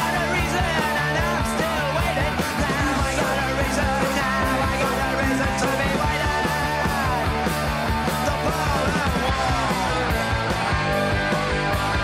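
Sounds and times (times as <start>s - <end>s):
punk rock band playing: 0.0s - 12.0s.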